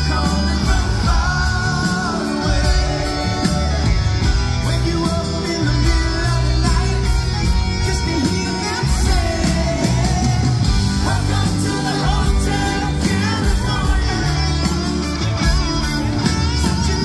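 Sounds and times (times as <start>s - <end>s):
bass guitar: 0.0s - 17.0s
drums: 0.0s - 17.0s
electric guitars: 0.0s - 17.0s
singer's voice: 0.0s - 17.0s.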